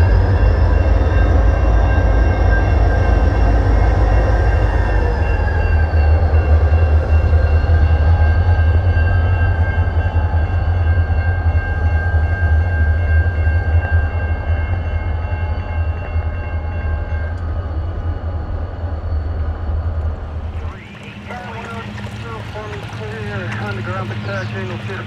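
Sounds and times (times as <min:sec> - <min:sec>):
freight train rumbling: 0:00.0 - 0:25.0.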